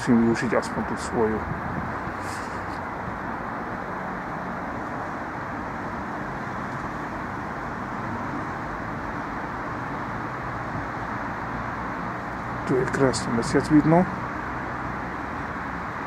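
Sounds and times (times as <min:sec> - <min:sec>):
distant road traffic hum: 0:00.0 - 0:16.0.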